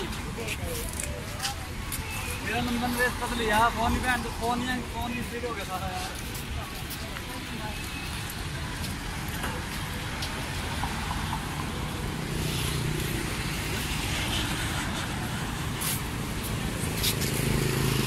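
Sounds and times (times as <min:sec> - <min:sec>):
passing vehicle engines: 0:00.0 - 0:18.0
street traffic noise: 0:00.0 - 0:18.0.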